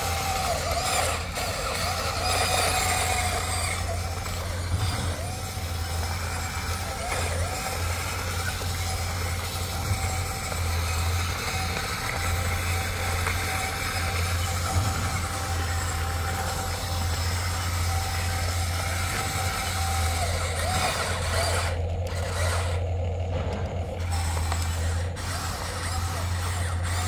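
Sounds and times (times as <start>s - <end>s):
toy excavator motor drone: 0.0s - 27.0s.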